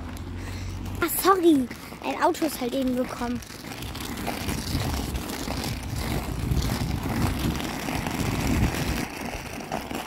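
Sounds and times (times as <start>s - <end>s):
inline skate wheels rolling on asphalt: 0.0s - 10.0s.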